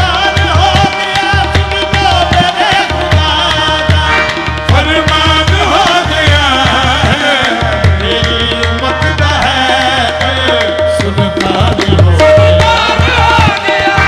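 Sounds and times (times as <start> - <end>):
tabla drums: 0.0 - 14.0.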